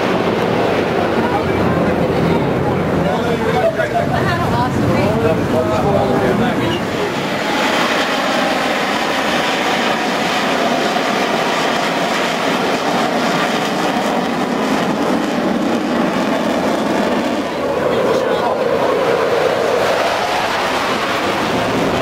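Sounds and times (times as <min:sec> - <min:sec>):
jet flying past: 0:00.0 - 0:22.0.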